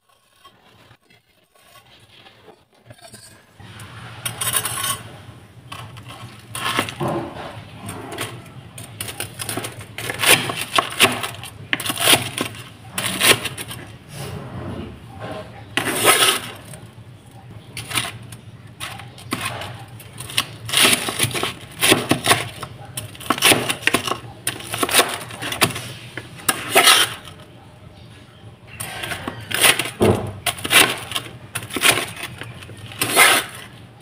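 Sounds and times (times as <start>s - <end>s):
knife crunching through crispy crust: 0.0s - 14.0s, 15.7s - 17.0s, 17.6s - 27.4s, 28.7s - 33.8s.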